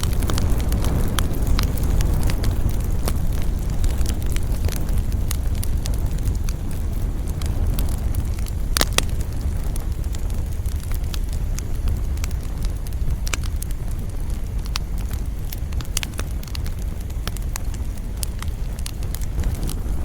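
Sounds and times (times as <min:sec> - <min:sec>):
campfire flame rumbling: 0:00.0 - 0:20.0
wood crackling and popping: 0:00.0 - 0:20.0.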